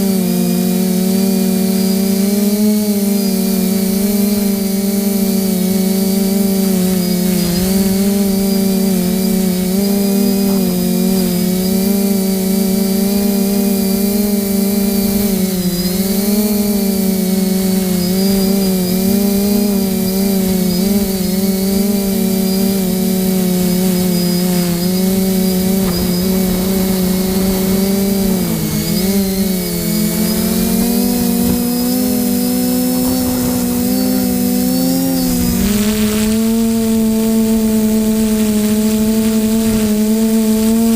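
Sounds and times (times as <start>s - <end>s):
small motor whine: 0.0s - 40.9s.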